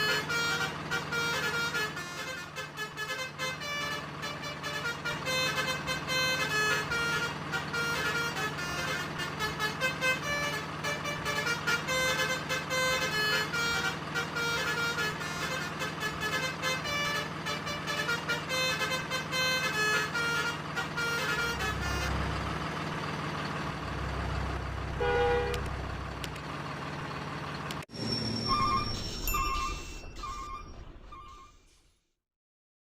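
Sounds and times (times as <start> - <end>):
multi-tone truck horn tune: 0.0 - 27.0, 27.9 - 31.7
low engine hum: 0.0 - 31.4.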